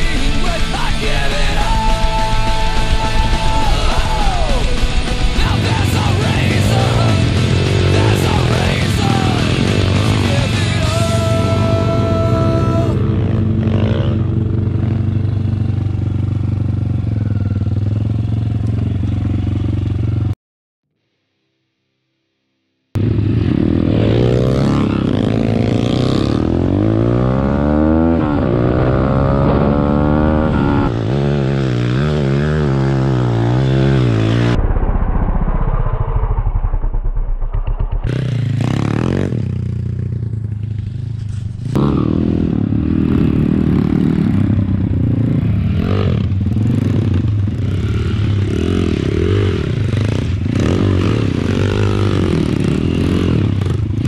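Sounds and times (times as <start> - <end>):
pit bike engine revving: 0.8 - 20.2, 23.0 - 34.6, 36.6 - 54.0.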